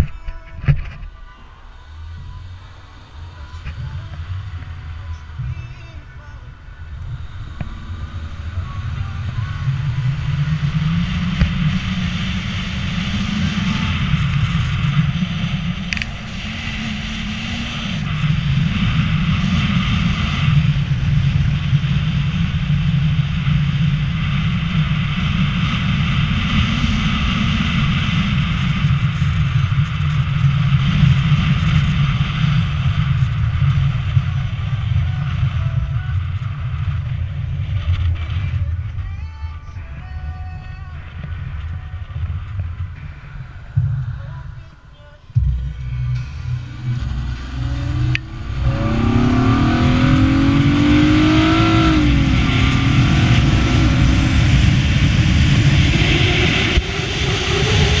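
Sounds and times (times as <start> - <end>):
wind on microphone: 0.0 - 1.3, 2.1 - 58.0
car engine rumble: 0.0 - 58.0
road noise: 0.0 - 58.0.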